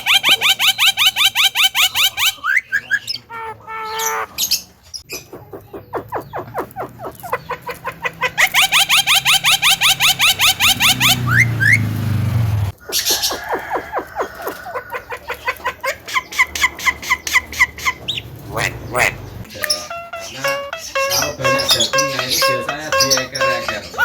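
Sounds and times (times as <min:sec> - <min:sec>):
myna calling: 0:00.0 - 0:12.1, 0:12.8 - 0:24.0.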